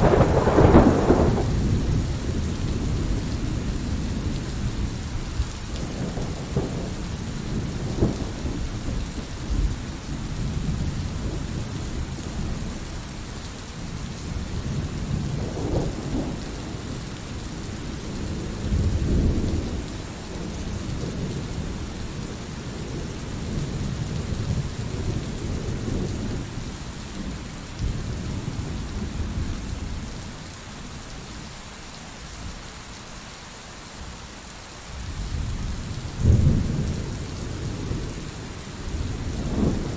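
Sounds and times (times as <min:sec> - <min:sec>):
rolling thunder: 0:00.0 - 0:04.9, 0:05.8 - 0:12.8, 0:14.2 - 0:30.1, 0:35.0 - 0:39.9
rain hiss: 0:00.0 - 0:39.9.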